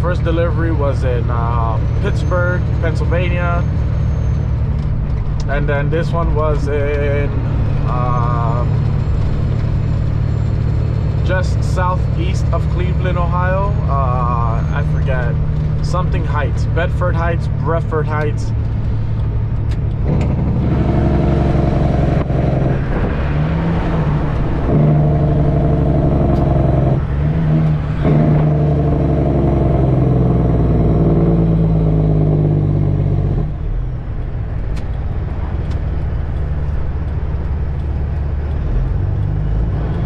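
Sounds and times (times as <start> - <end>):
truck diesel engine under load: 0.0 - 40.0.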